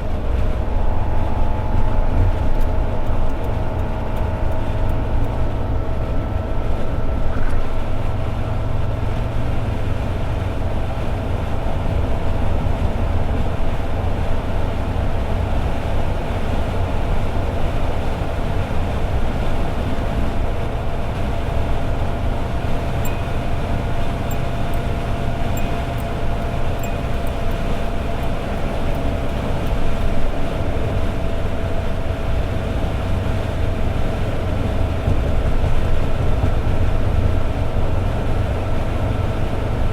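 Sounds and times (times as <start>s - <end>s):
car engine droning: 0.0s - 39.9s
road noise: 0.0s - 39.9s.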